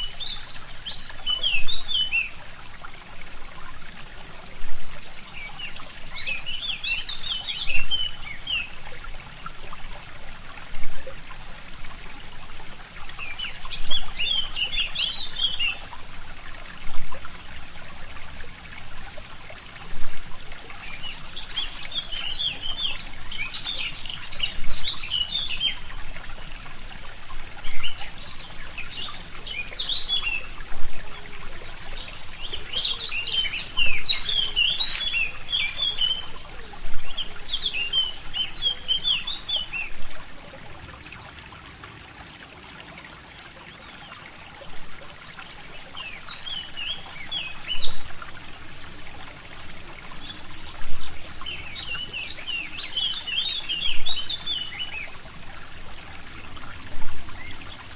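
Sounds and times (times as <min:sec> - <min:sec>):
songbirds twittering: 0:00.0 - 0:02.9, 0:04.8 - 0:09.5, 0:12.4 - 0:40.5, 0:43.6 - 0:57.9
brook trickling: 0:00.0 - 0:57.9.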